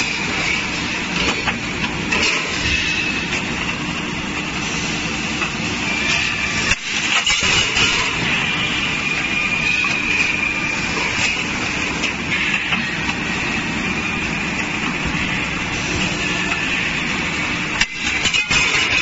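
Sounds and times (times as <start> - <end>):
factory machinery din: 0.0 - 19.0.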